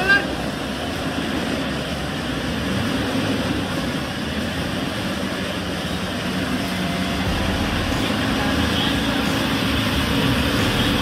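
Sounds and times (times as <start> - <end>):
engine low drone: 0.3 - 11.0.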